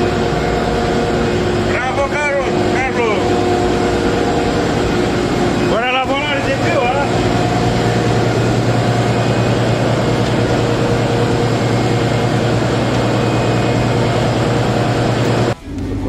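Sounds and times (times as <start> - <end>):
diesel engine low hum: 0.0 - 16.0.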